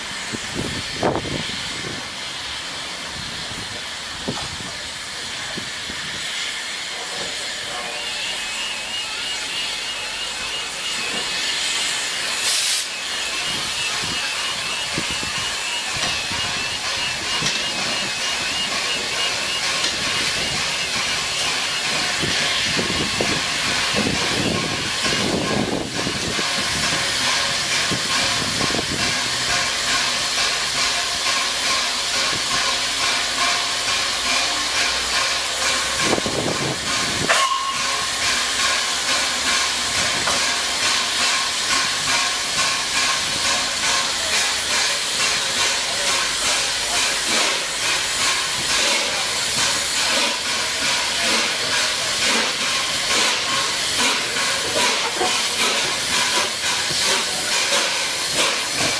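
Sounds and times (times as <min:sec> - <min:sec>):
steam locomotive hissing: 0:00.0 - 0:58.9.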